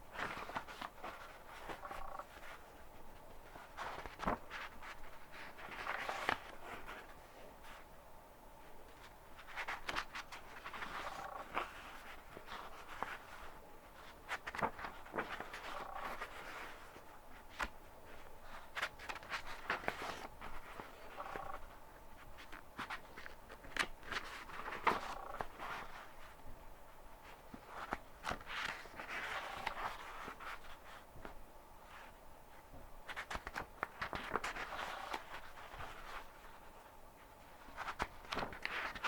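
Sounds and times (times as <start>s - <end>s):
book pages turning: 0.1s - 7.9s, 8.6s - 26.4s, 27.2s - 39.0s.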